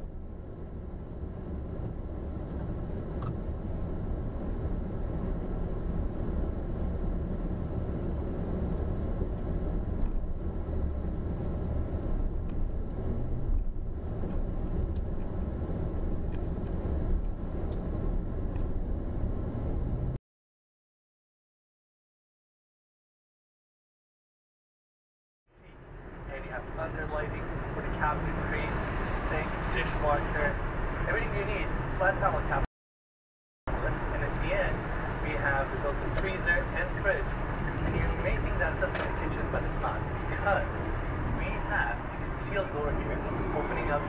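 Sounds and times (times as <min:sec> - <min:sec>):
car engine rumble inside car: 0:00.0 - 0:20.2, 0:25.6 - 0:32.6, 0:33.7 - 0:44.0
road noise: 0:00.0 - 0:20.2, 0:25.5 - 0:32.7, 0:33.7 - 0:44.0.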